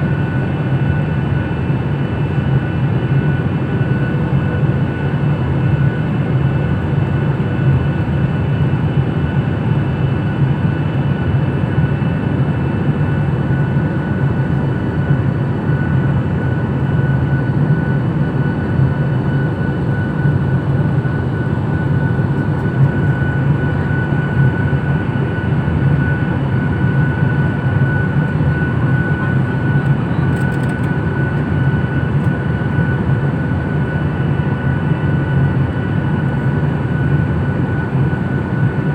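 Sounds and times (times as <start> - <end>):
airliner cabin engine drone: 0.0 - 38.9.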